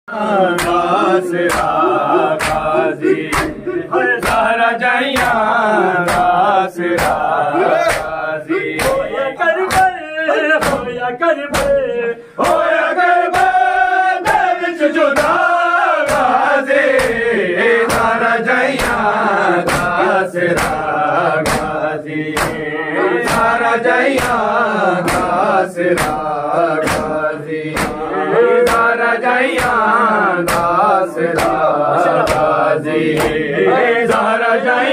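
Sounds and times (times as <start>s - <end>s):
men chanting a lament: 0.1s - 34.9s
hands slapping chests: 0.5s - 33.5s, 34.1s - 34.4s.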